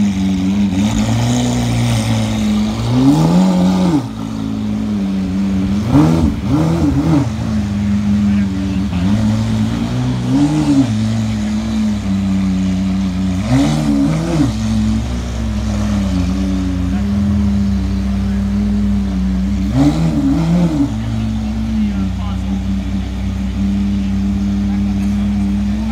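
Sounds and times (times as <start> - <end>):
car engine idling: 0.0 - 25.9
engine revving: 0.0 - 25.9.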